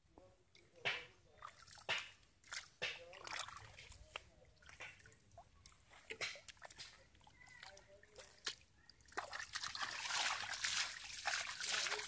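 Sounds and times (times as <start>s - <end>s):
hands splashing in muddy water: 0.9s - 12.0s.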